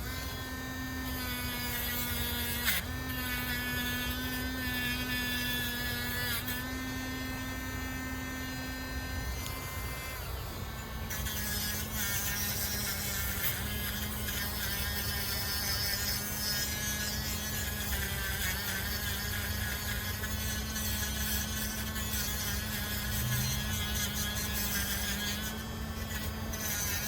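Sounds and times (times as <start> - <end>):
rotary tool buzzing: 0.0 - 27.0.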